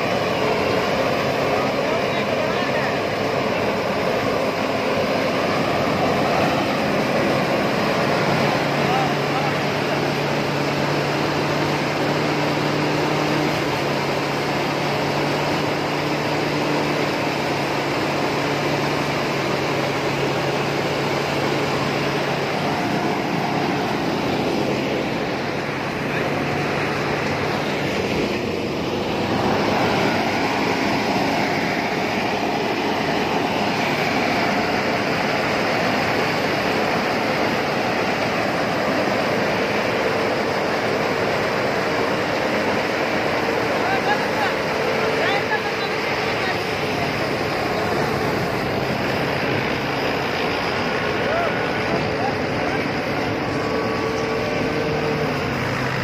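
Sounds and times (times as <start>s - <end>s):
thresher machine running: 0.0s - 56.0s.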